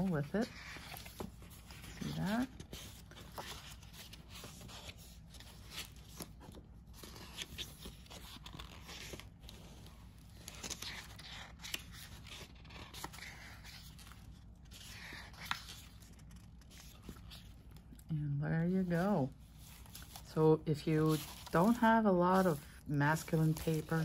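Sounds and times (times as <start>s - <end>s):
paper sheets rustling: 0.0s - 17.9s, 18.8s - 24.0s.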